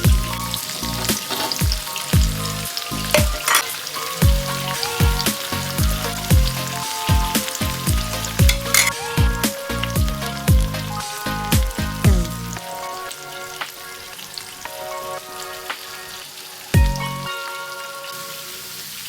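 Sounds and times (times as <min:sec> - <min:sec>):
background music with beat: 0:00.0 - 0:18.5
food sizzling in hot oil: 0:00.0 - 0:19.0.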